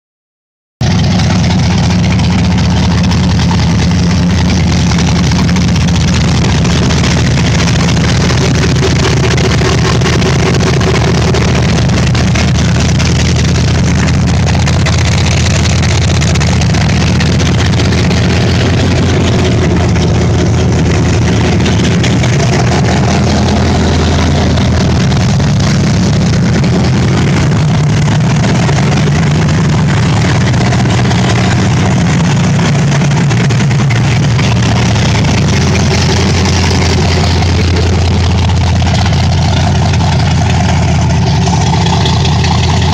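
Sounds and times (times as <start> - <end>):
loud engine idling: 0.8 - 42.9.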